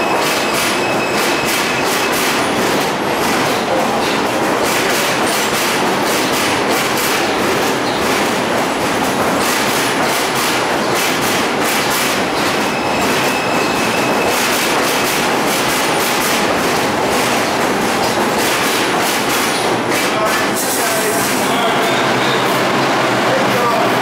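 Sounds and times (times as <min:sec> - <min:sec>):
train wheels clacking on rails: 0:00.0 - 0:24.0.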